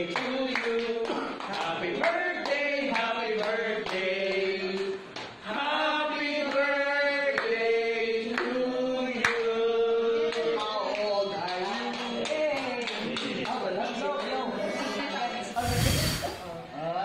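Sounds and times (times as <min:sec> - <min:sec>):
group of people singing: 0:00.0 - 0:13.4, 0:14.4 - 0:16.5.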